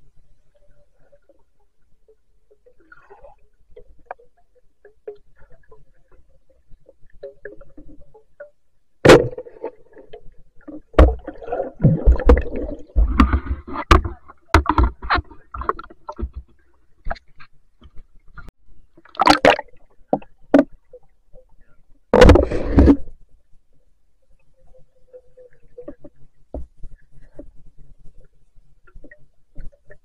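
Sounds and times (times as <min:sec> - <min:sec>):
underwater knocks and rattles: 0:00.6 - 0:23.3, 0:25.6 - 0:30.0.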